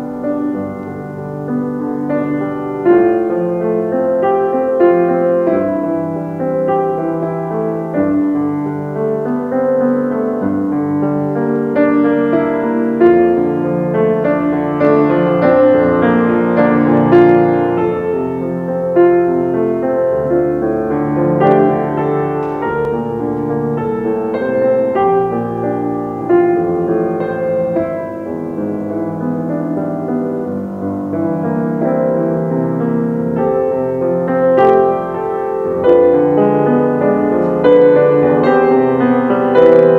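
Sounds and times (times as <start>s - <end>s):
slow solo piano music: 0.0s - 39.9s.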